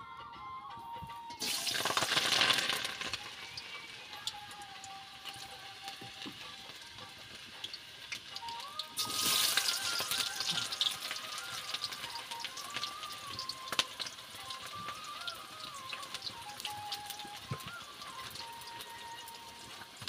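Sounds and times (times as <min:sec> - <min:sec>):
water hissing in a wok: 0:01.4 - 0:20.0
wood fire crackling and popping: 0:01.4 - 0:20.0.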